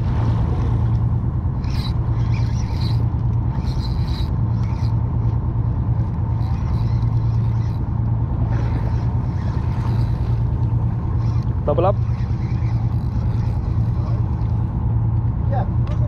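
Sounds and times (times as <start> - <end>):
boat machinery humming: 0.0 - 16.0
fishing reel cranking: 0.9 - 14.8.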